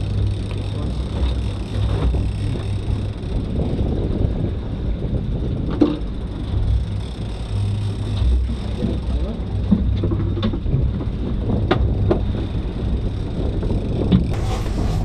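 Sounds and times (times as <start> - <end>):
boat engine and wind rumble: 0.0 - 15.0.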